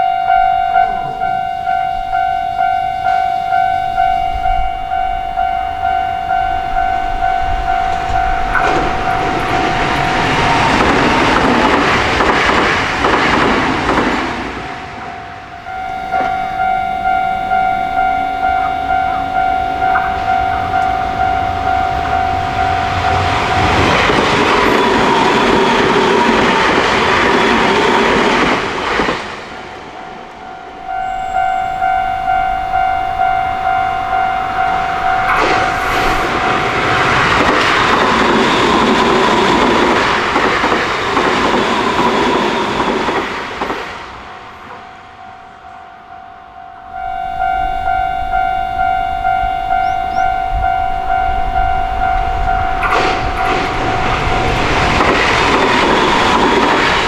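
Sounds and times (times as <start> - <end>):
rattling train wheels: 0.0 - 45.1, 46.9 - 57.0
electric train passing: 0.0 - 57.0
level-crossing warning bell: 0.0 - 57.0.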